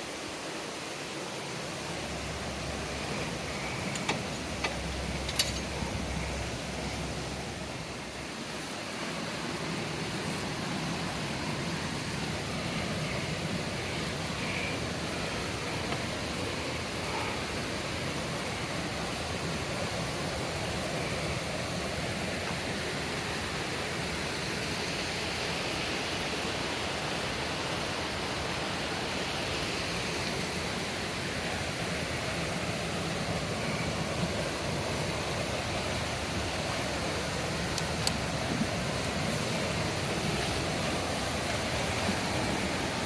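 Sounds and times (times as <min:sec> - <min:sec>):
river white water rushing: 0:00.0 - 0:43.0.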